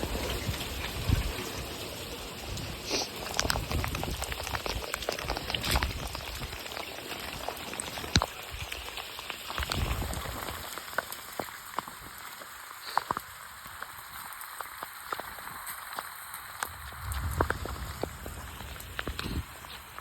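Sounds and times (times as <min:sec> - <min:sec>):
heavy rain falling: 0:00.0 - 0:20.0
raindrops tapping close by: 0:00.0 - 0:20.0.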